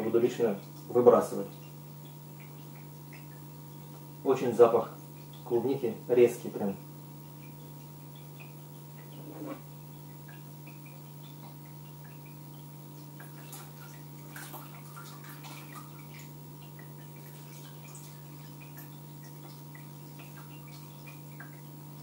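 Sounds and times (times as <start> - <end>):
liquid trickling: 0.0 - 22.0
small drips: 0.0 - 22.0
steady low hum: 0.0 - 22.0.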